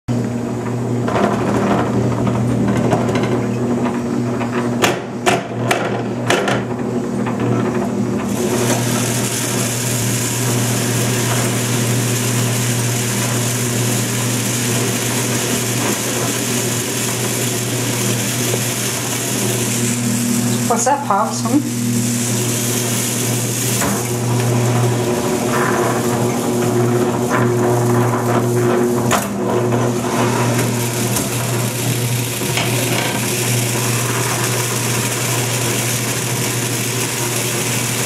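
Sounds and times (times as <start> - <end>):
motor hum: 0.1 - 38.0.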